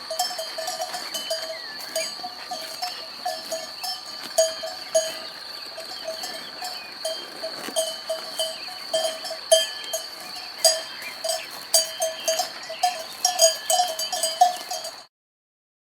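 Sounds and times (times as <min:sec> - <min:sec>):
cowbells clanking: 0:00.0 - 0:15.1.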